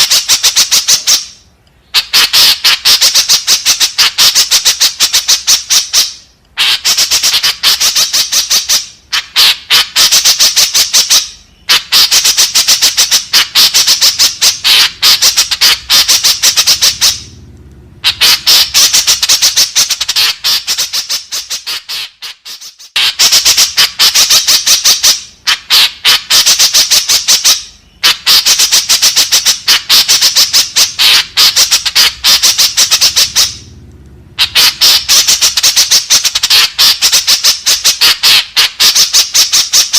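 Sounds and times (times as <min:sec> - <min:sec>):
bird calling rapid sharp notes: 0:00.0 - 0:39.9.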